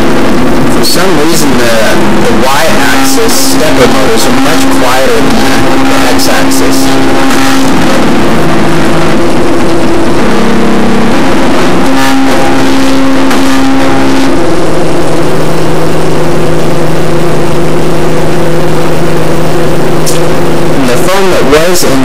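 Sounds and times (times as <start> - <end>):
loud distorted hiss: 0.0 - 22.0
stepper motors humming: 0.0 - 22.0.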